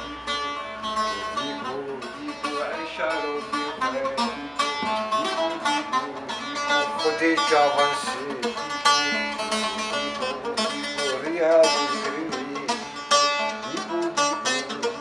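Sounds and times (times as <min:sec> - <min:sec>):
plucked lute: 0:00.0 - 0:15.0
man singing: 0:00.9 - 0:15.0.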